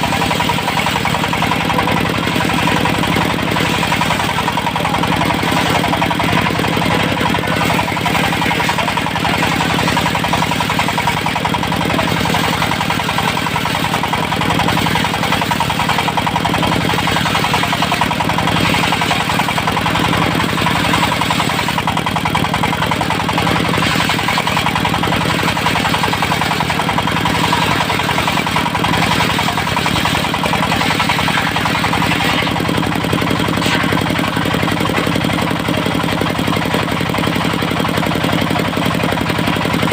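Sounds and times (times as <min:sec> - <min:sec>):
saw blade cutting wood: 0:00.0 - 0:37.0
diesel engine running: 0:00.0 - 0:39.9.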